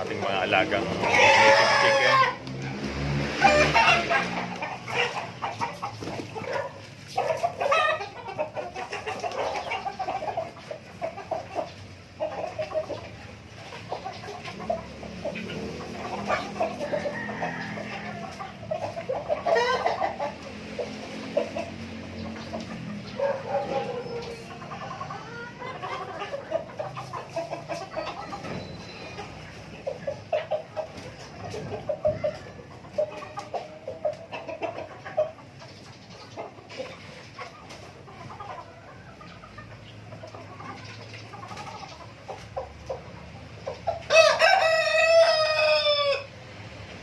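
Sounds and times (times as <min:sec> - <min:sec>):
chickens clucking: 0:00.0 - 0:47.0.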